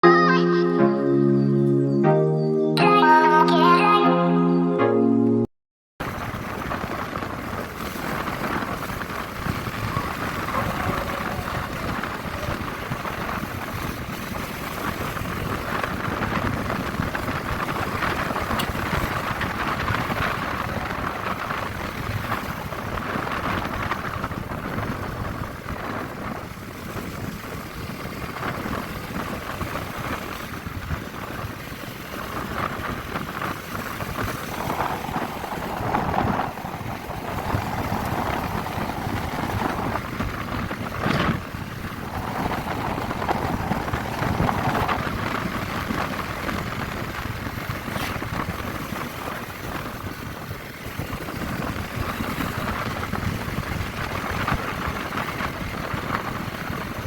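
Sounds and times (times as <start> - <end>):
motorcycle engine running: 6.0 - 57.0
wind on microphone: 6.0 - 57.0.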